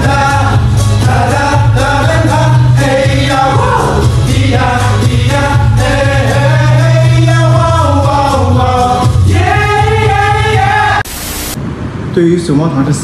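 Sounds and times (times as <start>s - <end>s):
song with sung vocals: 0.0s - 11.1s
steady bass line: 0.0s - 11.6s.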